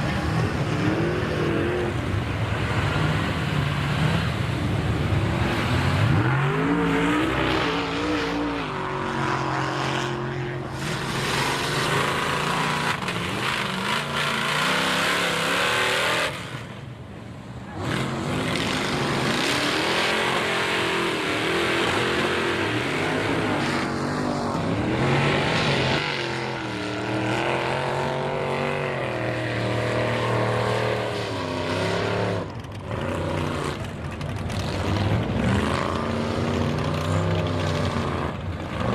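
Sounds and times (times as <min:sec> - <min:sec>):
truck engine revving hard: 0:00.0 - 0:16.7, 0:17.7 - 0:38.9.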